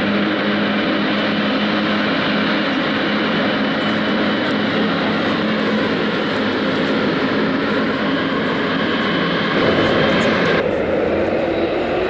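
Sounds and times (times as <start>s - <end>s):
jet aircraft high whine: 0.0s - 12.0s.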